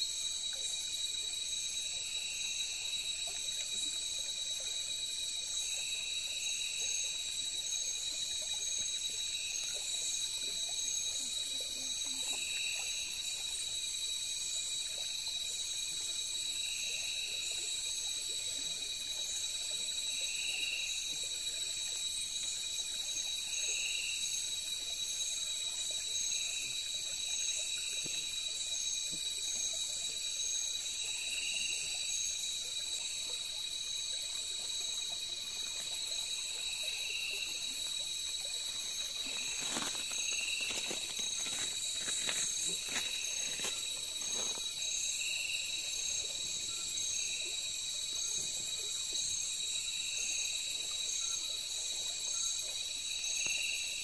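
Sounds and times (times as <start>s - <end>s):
crickets chirring: 0.0s - 54.0s
soft repeating insect call: 0.0s - 54.0s.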